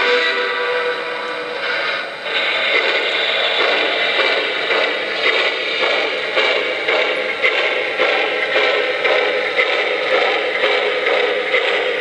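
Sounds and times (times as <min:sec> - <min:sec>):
model steam locomotive hiss: 0:00.0 - 0:12.0
train clicking on track: 0:00.0 - 0:12.0.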